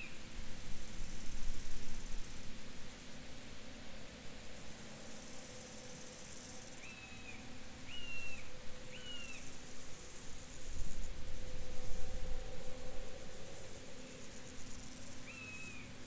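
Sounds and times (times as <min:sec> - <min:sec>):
insect hum and hiss: 0:00.0 - 0:16.0.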